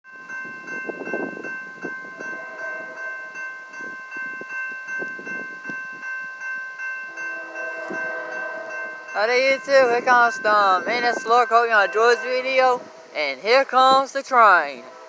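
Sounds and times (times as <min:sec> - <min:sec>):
railroad crossing bell ringing: 0:00.0 - 0:15.0
wind buffeting microphone: 0:00.2 - 0:06.3, 0:07.1 - 0:15.0.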